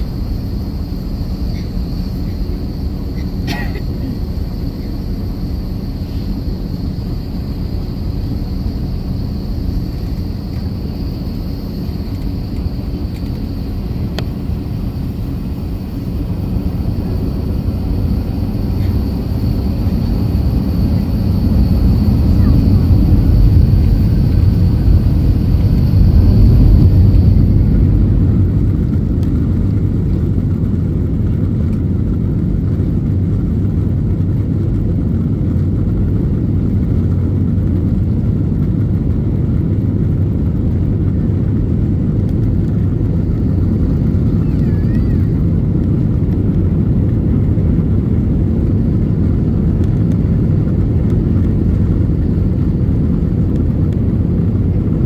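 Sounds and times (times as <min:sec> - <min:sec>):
faint high whine: 0:00.0 - 0:55.0
jet engines rumbling: 0:00.0 - 0:55.0.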